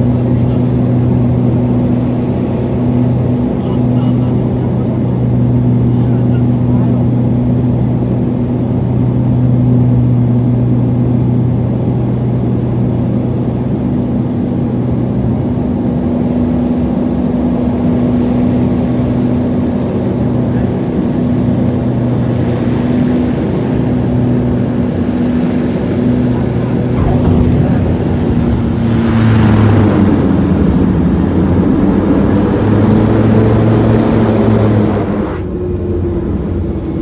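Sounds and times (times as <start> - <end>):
propeller engines droning: 0.0 - 37.0.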